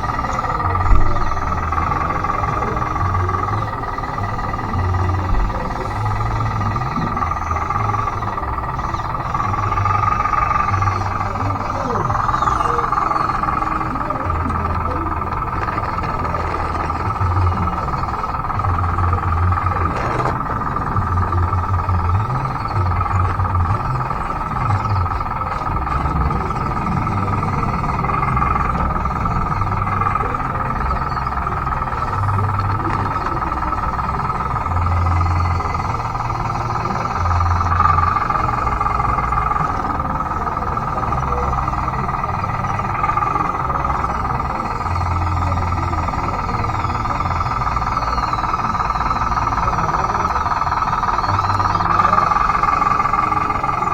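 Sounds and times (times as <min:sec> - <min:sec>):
electric motors whining: 0:00.0 - 0:53.9
low pulsing: 0:00.0 - 0:53.9.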